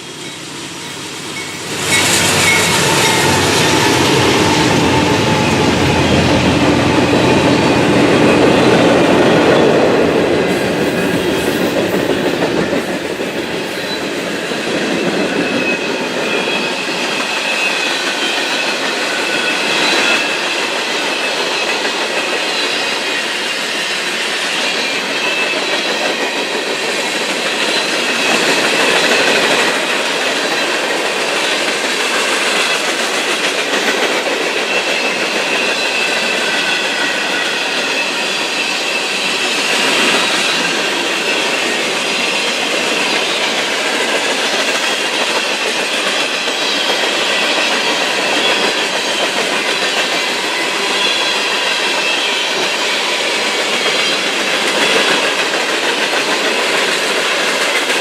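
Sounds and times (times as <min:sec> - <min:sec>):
freight train cars rolling: 0:00.0 - 0:58.0
wheels squealing on rails: 0:00.0 - 0:58.0
wheels clacking over rail joints: 0:01.2 - 0:58.0.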